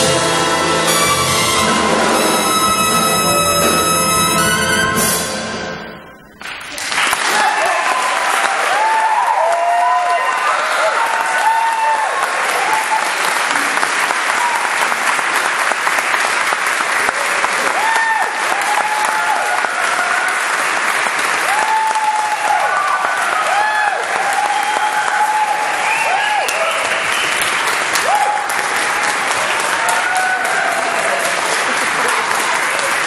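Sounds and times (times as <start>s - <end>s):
audience applauding: 6.3s - 33.0s.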